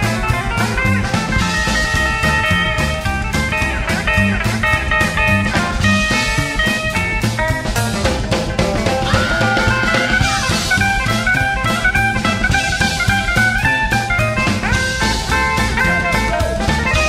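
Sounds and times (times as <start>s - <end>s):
driving drum kit: 0.0s - 17.0s
electric guitar solo: 0.0s - 17.0s
upright bass: 0.0s - 17.0s.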